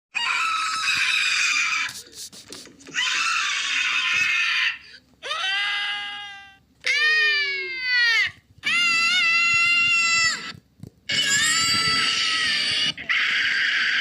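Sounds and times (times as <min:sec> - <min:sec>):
harsh raspy cartoon screams: 0:00.1 - 0:02.0, 0:02.9 - 0:14.0
high wailing cartoon scream: 0:00.1 - 0:02.0, 0:02.9 - 0:14.0.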